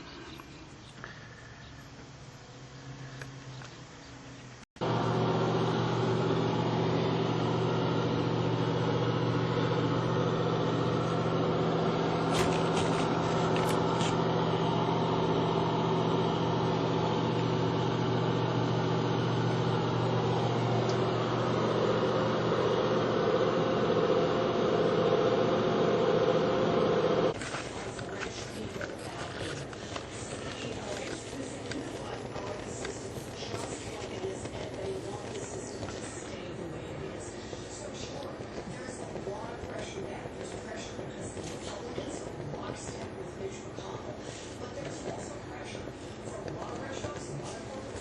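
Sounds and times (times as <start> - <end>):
small motor humming: 0.0 - 44.0.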